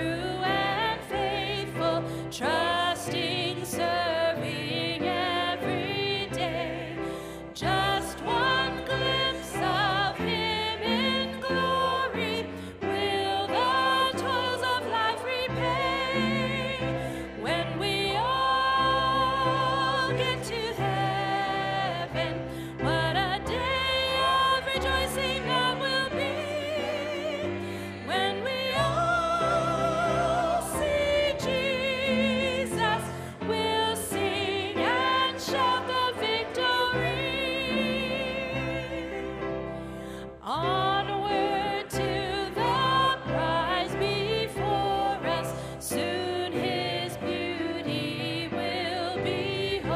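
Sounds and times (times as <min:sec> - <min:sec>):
woman singing a hymn: 0:00.0 - 0:39.4, 0:40.4 - 0:49.9.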